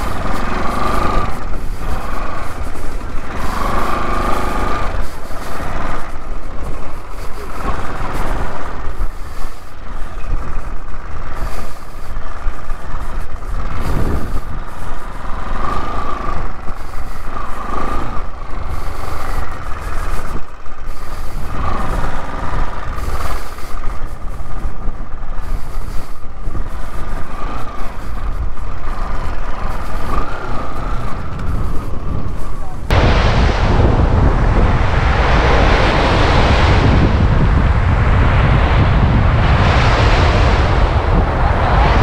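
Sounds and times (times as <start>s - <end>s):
motorcycle engine running: 0.0s - 42.0s
wind rumble on microphone: 0.0s - 42.0s.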